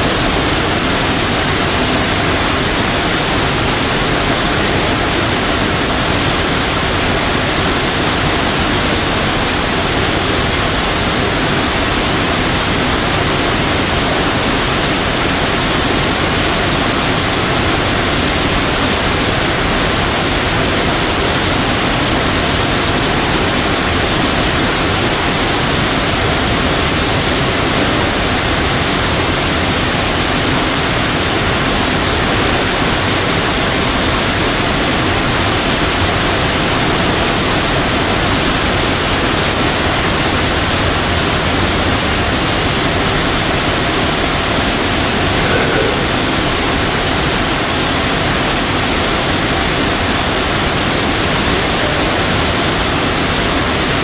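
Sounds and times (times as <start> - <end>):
loud steady hiss: 0.0 - 54.0.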